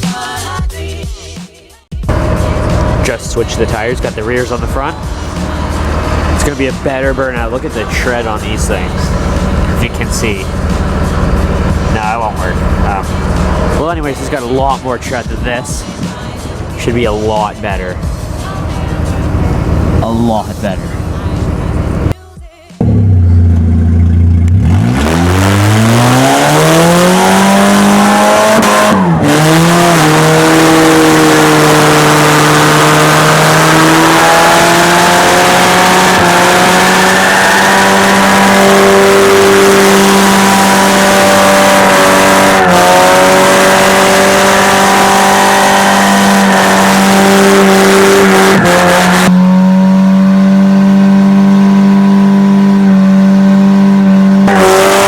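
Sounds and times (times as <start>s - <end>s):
car engine revving hard: 2.0s - 22.2s, 22.8s - 55.0s
spinning tyres hissing: 2.1s - 22.1s, 23.5s - 55.0s.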